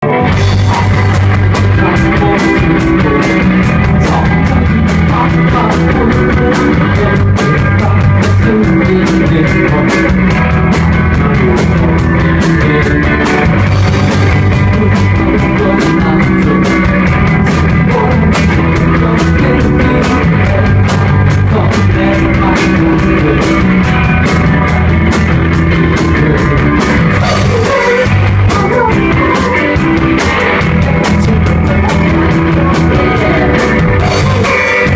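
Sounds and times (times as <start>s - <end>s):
bass guitar: 0.0s - 34.9s
drum kit: 0.0s - 34.9s
electric guitar: 0.0s - 34.9s.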